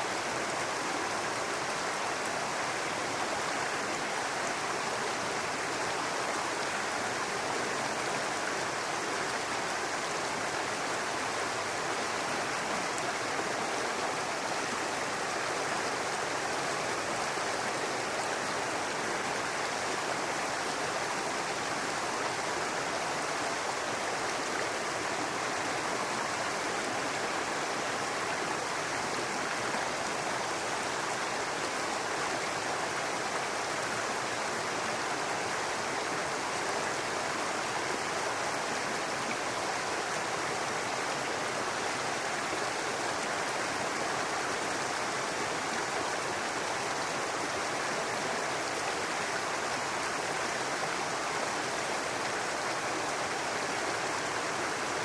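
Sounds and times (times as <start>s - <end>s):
brook babbling over rocks: 0.0s - 55.0s.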